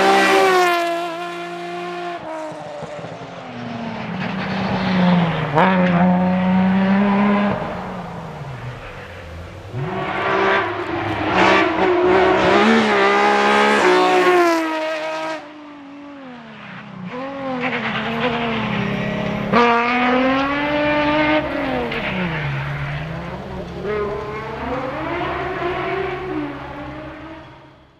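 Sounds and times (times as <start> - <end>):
rally car engine at full throttle: 0.0 - 27.9.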